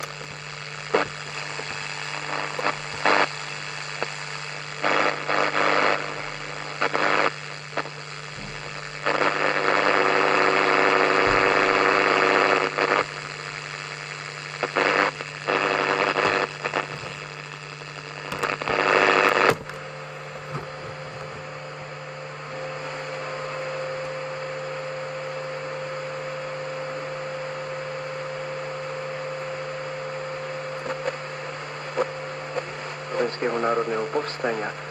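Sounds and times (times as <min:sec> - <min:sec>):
radio hiss with faint tone: 0:00.0 - 0:34.9
radio static bursts: 0:00.0 - 0:34.9.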